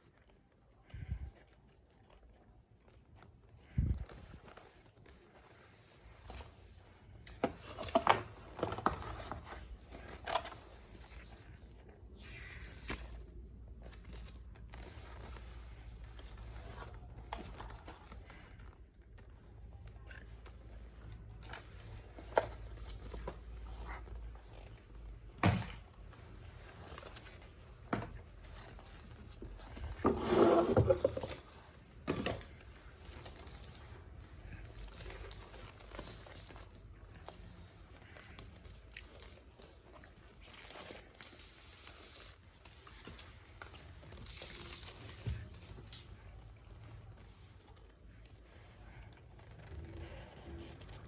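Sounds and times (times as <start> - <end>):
scraping and rubbing handling noise: 3.7 - 18.7, 19.5 - 51.0.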